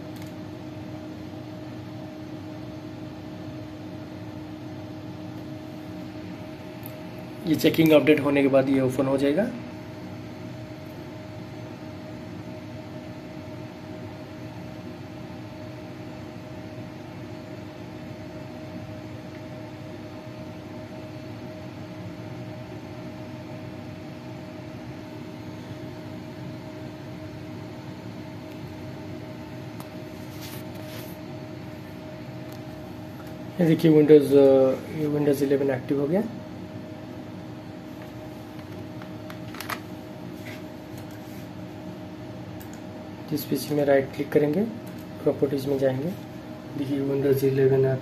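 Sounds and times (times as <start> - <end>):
machine hum with steady tones: 0.0 - 48.0.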